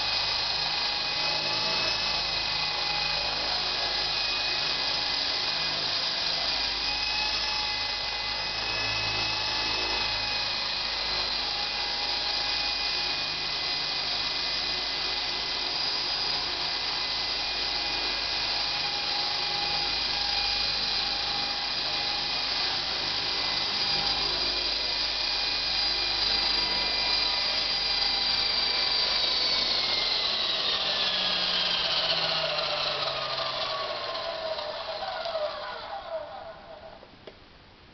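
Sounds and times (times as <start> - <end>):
rc helicopter rotor whine: 0.0 - 37.4.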